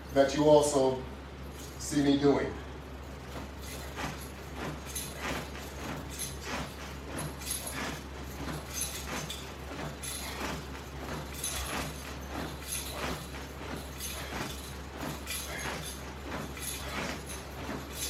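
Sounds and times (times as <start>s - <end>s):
steady low hum: 0.0s - 18.0s
rustling and clinking strokes: 1.2s - 2.1s, 2.8s - 18.0s.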